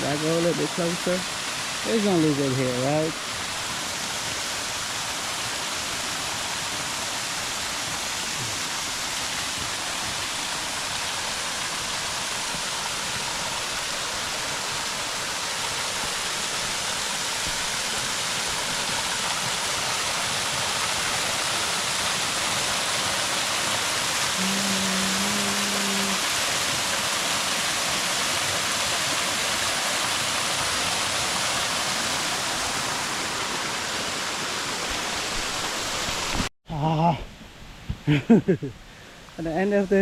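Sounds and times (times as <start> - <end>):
small waterfall rushing: 0.0 - 37.2, 38.1 - 40.0.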